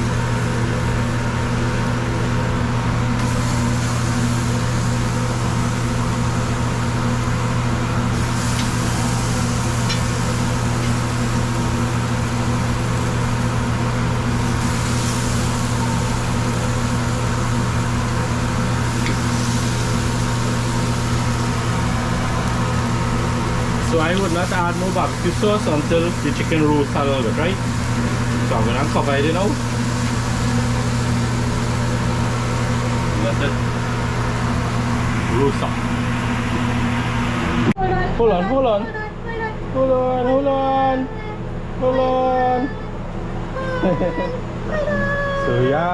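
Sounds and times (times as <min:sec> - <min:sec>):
mechanical hum: 0:00.0 - 0:45.9.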